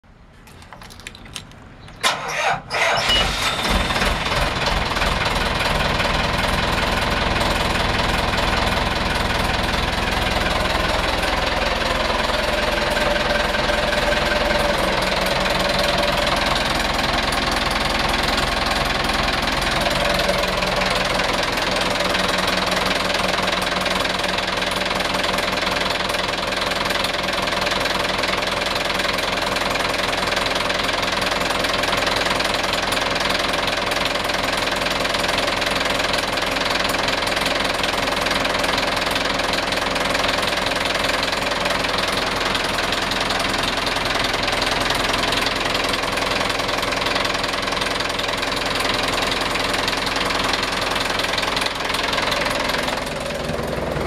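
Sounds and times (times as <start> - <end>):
diesel engine cranking and idling: 0.4 - 54.0.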